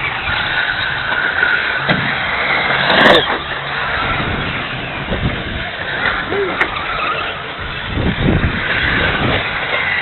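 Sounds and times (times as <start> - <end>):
race cars racing: 0.0 - 10.0.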